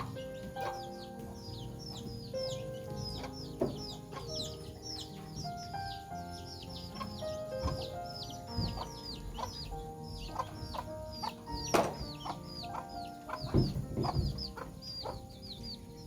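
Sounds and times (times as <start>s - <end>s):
dull thumps: 0.0s - 15.9s
background music: 0.0s - 16.0s
bird peeping: 0.0s - 16.0s.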